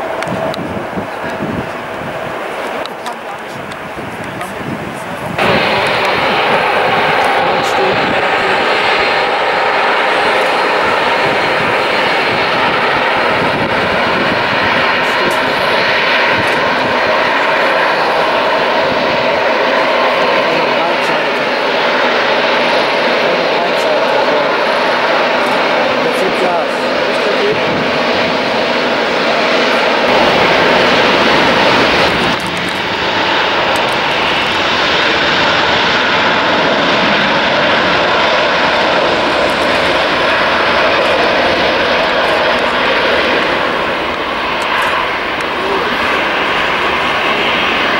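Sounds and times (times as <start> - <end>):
jet engines rushing with faint whine: 0.0 - 47.9.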